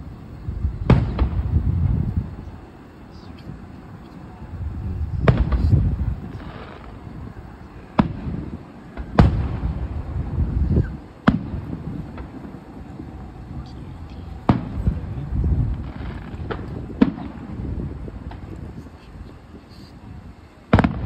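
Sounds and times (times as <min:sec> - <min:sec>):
low rumbling echo: 0:00.0 - 0:02.7, 0:03.6 - 0:19.0
fireworks bursting: 0:00.0 - 0:21.0.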